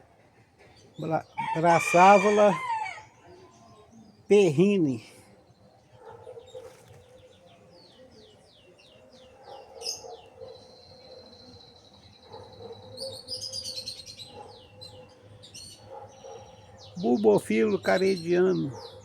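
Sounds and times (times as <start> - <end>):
songbirds singing: 0.0 - 19.0.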